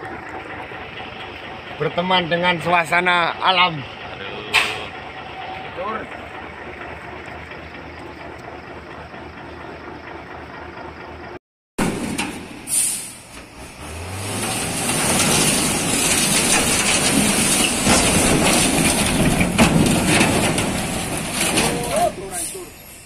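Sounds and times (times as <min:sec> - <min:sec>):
truck diesel engine under load: 0:00.0 - 0:23.0.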